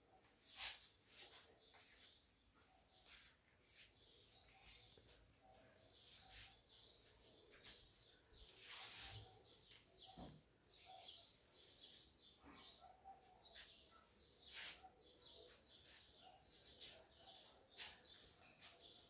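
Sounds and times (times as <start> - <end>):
faint bird chirps: 0.1 - 19.0.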